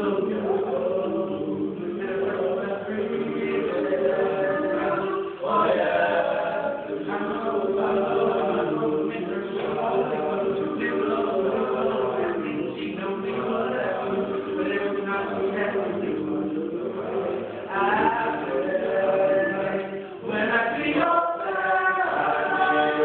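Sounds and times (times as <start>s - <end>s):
choir singing chords: 0.0s - 23.0s.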